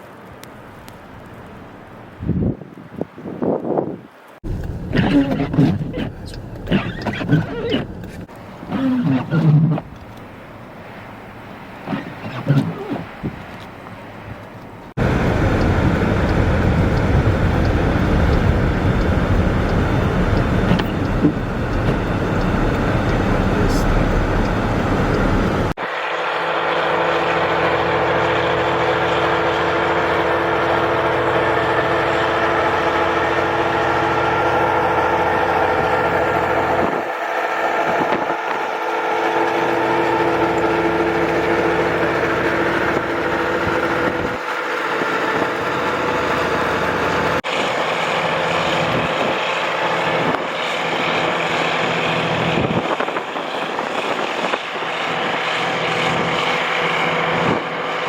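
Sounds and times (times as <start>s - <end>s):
wind and road noise: 0.0s - 58.0s
vehicle engine hum: 4.2s - 58.0s.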